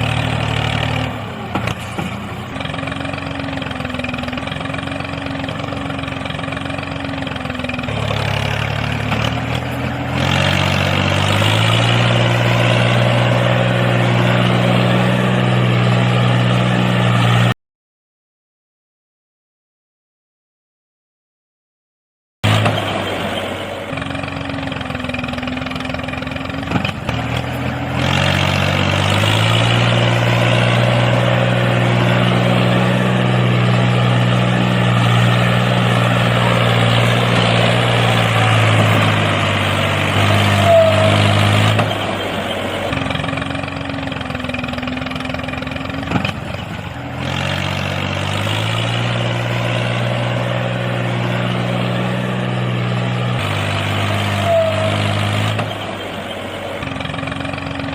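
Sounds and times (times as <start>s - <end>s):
tractor engine revving: 0.0s - 17.6s, 22.4s - 57.9s.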